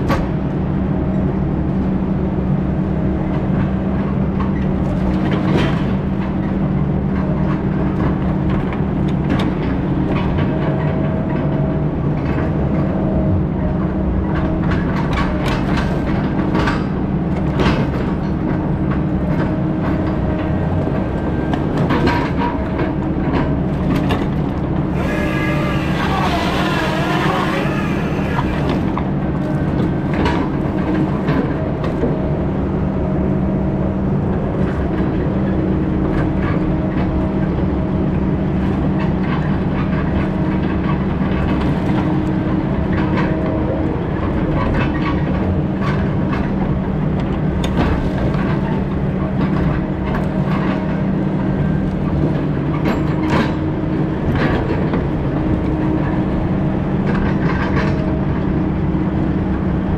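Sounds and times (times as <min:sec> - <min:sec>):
heavy diesel machine running: 0:00.0 - 0:59.9.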